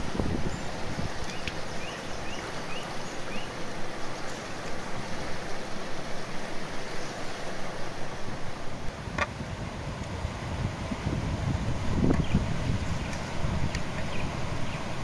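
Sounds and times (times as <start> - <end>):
river water running: 0.0 - 15.0.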